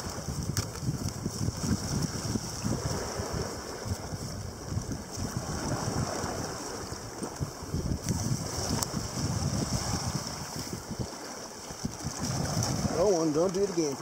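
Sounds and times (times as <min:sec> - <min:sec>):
surf washing on rocks: 0:00.0 - 0:14.0
wind rumbling on microphone: 0:00.0 - 0:14.0.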